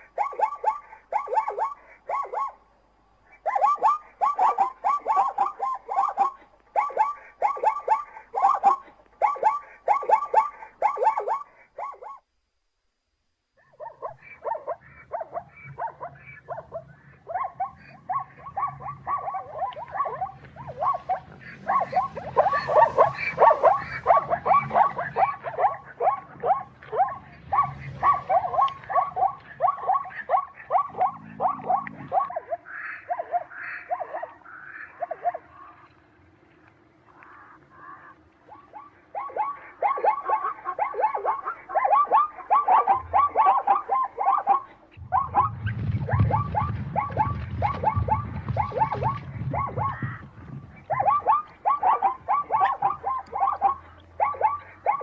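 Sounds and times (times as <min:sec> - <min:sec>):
zebra barking: 0:00.0 - 0:02.6, 0:03.2 - 0:12.2, 0:13.6 - 0:36.0, 0:37.1 - 0:55.0.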